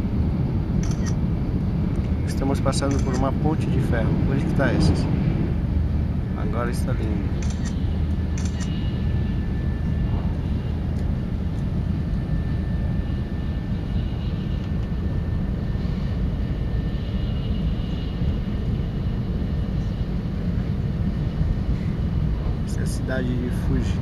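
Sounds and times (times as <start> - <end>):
train rumbling at speed: 0.0 - 24.0.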